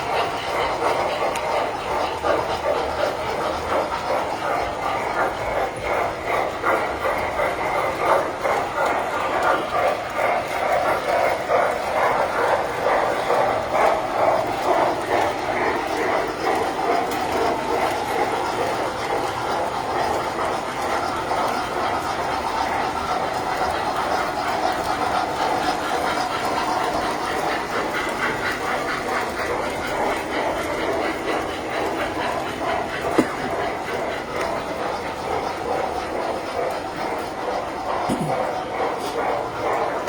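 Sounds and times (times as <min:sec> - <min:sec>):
clicking over rails: 0:00.0 - 0:40.0
toy train wheels and motors rumbling: 0:00.0 - 0:40.0.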